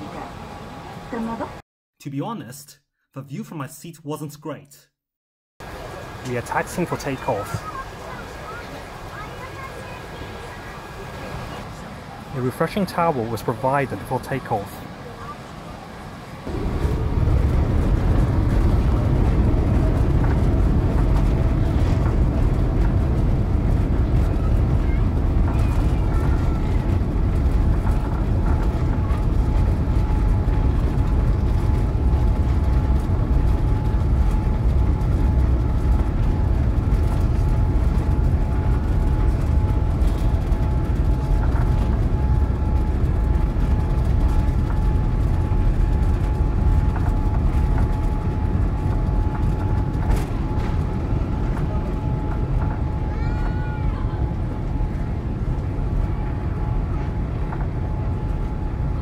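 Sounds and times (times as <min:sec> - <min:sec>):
airliner cabin deep rumble: 0:05.6 - 0:59.0
thin steady whine: 0:05.6 - 0:59.0.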